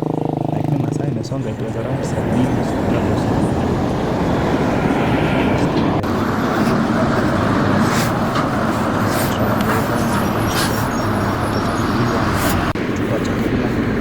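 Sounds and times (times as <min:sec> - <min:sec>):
traffic passing: 0:00.0 - 0:14.0.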